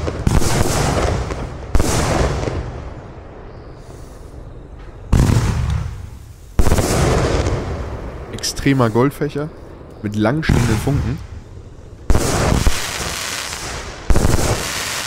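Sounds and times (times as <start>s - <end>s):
loud firework bangs: 0.0s - 3.8s, 4.8s - 8.8s, 10.4s - 15.0s.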